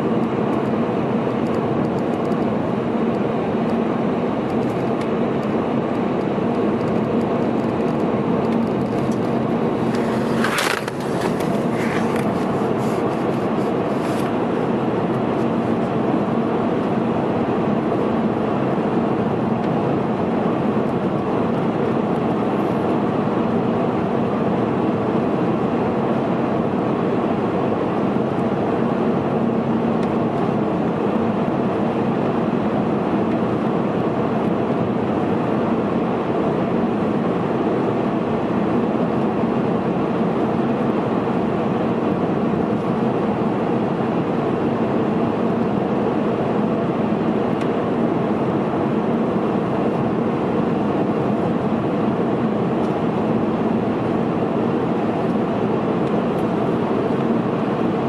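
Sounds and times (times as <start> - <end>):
car tyre and engine noise: 0.0 - 58.0.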